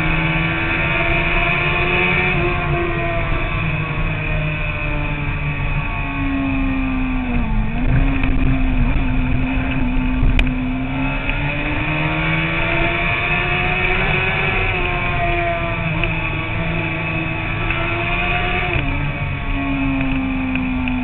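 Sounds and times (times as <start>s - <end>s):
motorcycle engine running: 0.0s - 21.0s
rushing wind: 0.0s - 21.0s.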